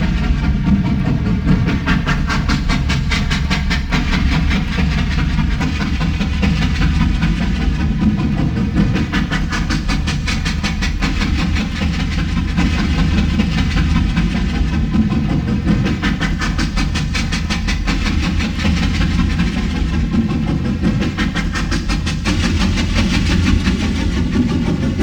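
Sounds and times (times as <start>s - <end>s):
steam train running: 0.0s - 25.0s.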